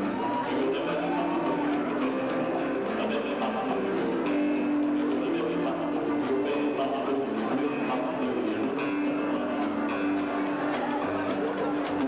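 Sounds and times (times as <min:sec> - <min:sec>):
live rock and roll band: 0:00.0 - 0:12.0.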